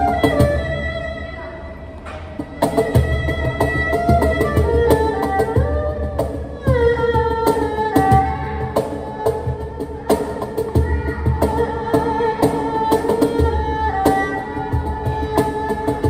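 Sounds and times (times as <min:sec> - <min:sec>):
bowed string melody: 0:00.0 - 0:16.0
cajon hand strikes: 0:02.0 - 0:16.0.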